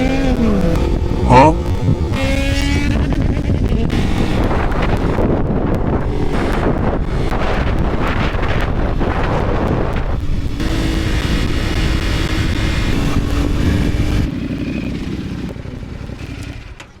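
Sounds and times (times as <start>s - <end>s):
wind rush: 0.0s - 14.3s
motorcycle engine running: 0.0s - 17.0s.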